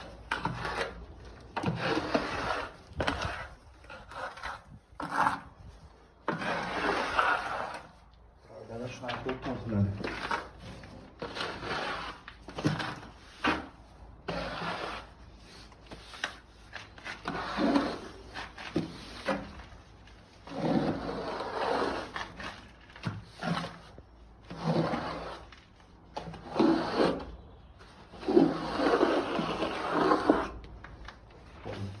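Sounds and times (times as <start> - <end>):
trowel scraping plaster: 0.0 - 8.0, 8.8 - 30.7.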